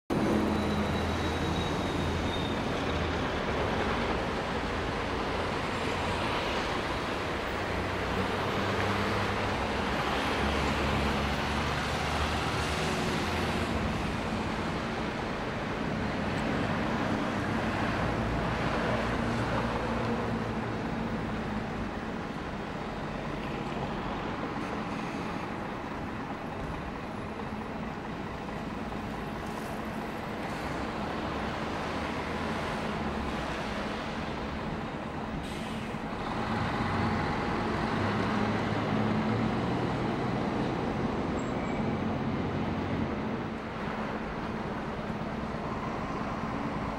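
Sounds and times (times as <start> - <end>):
fire engines humming: 0.1 - 46.9.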